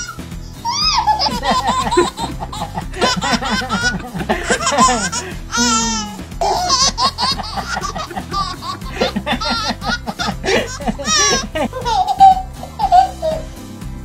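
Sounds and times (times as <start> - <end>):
babies laughing: 0.0 - 13.5
background music: 0.0 - 14.0.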